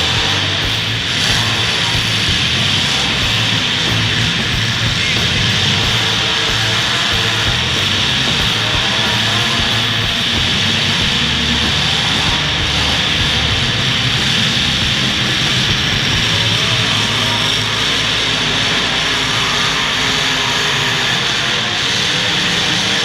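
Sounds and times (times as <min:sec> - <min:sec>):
car engines running together: 0:00.0 - 0:23.0.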